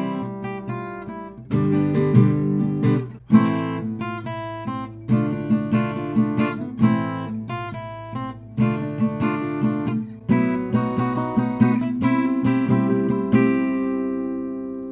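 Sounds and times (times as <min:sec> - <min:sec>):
acoustic guitar chords: 0:00.0 - 0:14.9.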